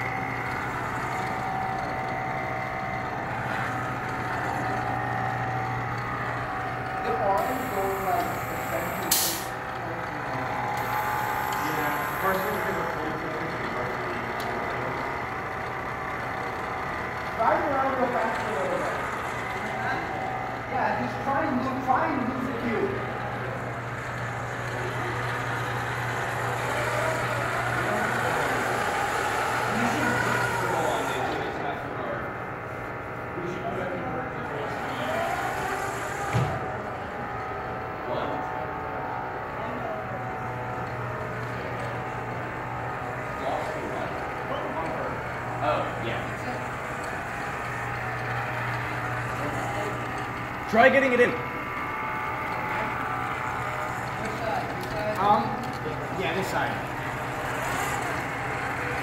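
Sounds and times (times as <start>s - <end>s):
robot motors whining: 0.0s - 59.0s.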